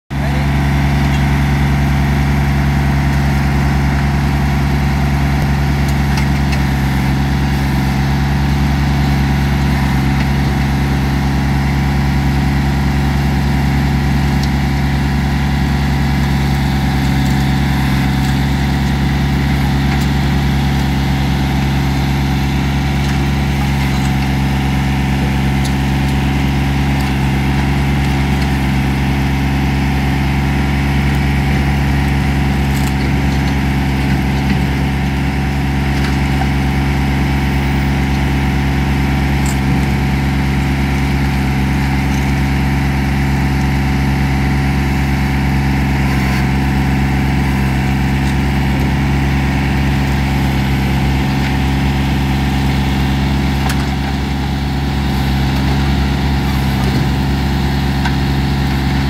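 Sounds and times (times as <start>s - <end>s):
diesel tractor engine droning: 0.1s - 59.0s.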